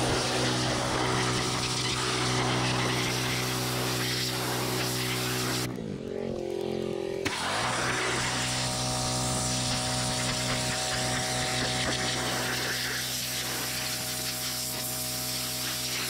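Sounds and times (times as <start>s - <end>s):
pressure washer spraying: 0.0s - 5.7s, 7.2s - 16.0s.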